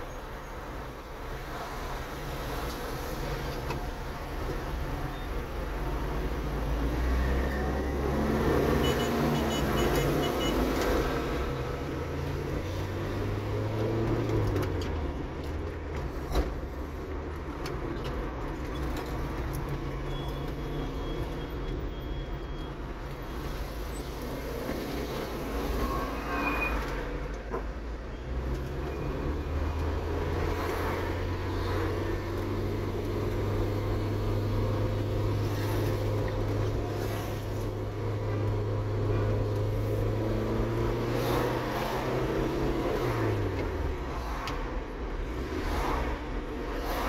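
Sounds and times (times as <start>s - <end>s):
cars passing: 0.0s - 21.6s, 22.8s - 47.0s
engine rumble and road noise: 0.0s - 47.0s.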